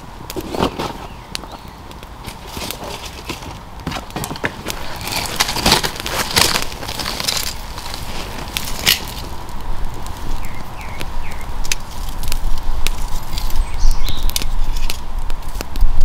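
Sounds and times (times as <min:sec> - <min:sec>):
campfire crackling: 0:00.0 - 0:16.0
sticks snapping in fire: 0:00.2 - 0:16.0.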